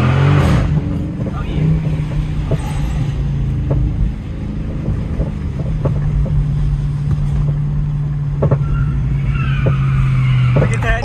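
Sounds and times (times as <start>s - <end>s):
car engine drone: 0.0s - 11.0s
road rumble: 0.0s - 11.0s.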